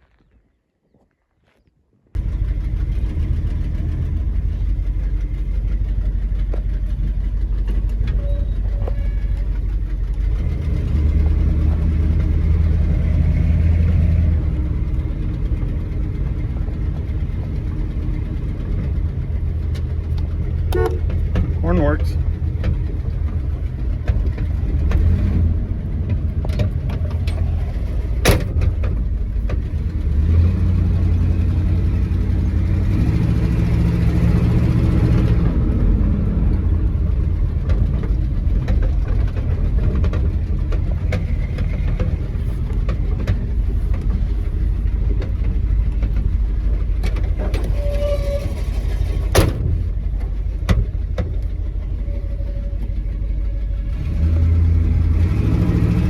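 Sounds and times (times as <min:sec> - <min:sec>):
low road rumble: 0:00.0 - 0:56.0
pickup truck engine running: 0:02.2 - 0:56.0.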